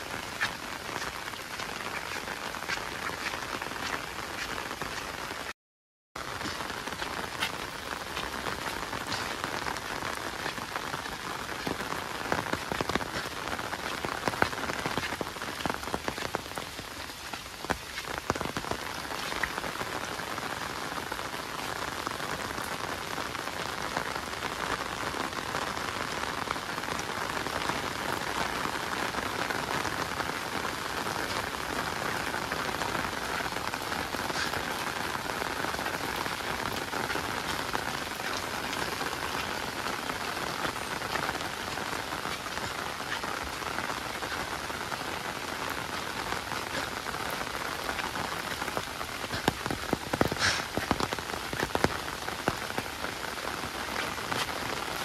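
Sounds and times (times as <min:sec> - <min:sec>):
rain falling: 0:00.0 - 0:05.6, 0:06.2 - 0:55.0.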